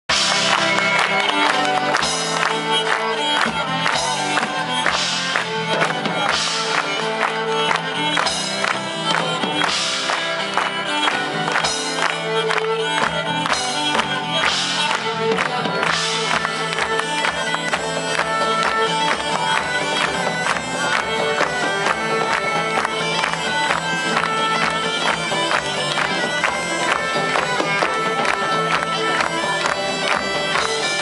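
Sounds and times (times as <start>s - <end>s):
bowed string instrument: 0.1s - 31.0s.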